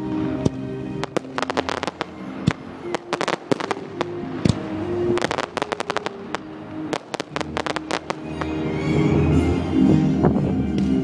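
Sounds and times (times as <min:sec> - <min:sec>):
fireworks bangs and crackles: 0:00.0 - 0:09.3
music playing: 0:00.0 - 0:11.0.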